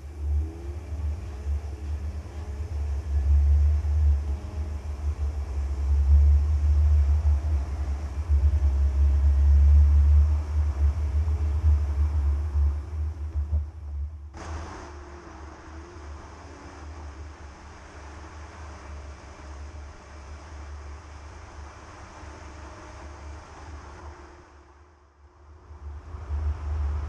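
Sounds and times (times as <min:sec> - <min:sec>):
faint whine: 0:00.0 - 0:27.0
truck drivetrain droning rumble: 0:00.0 - 0:27.0.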